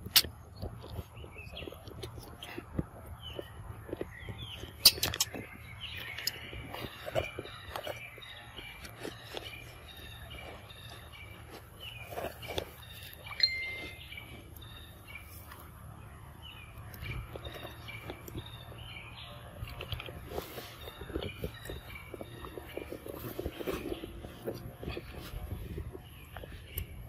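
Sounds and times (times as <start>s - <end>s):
birds chirping: 0.0s - 27.0s
low steady hum: 0.0s - 27.0s.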